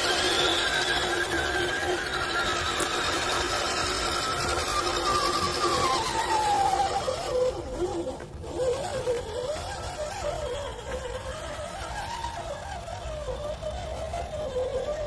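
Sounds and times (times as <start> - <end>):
toy car electric motor whining: 0.0 - 15.0.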